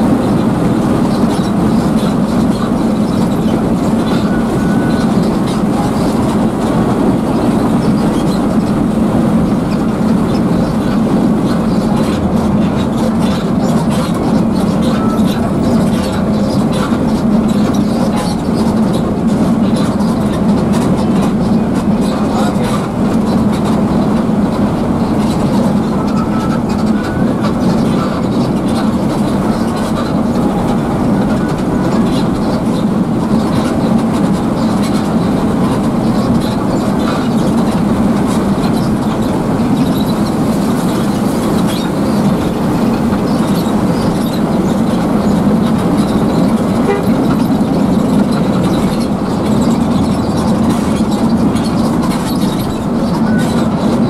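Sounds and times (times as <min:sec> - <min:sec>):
bus engine hum: 0:00.0 - 0:54.0
tyre and road noise: 0:00.0 - 0:54.0.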